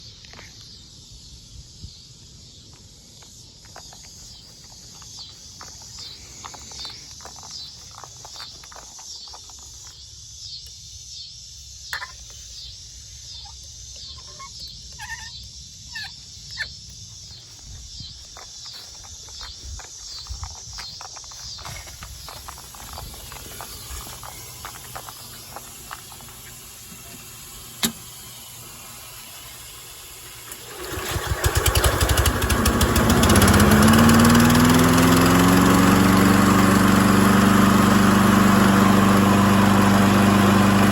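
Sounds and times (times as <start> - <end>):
insects calling in pulsing chorus: 0.0 - 40.9.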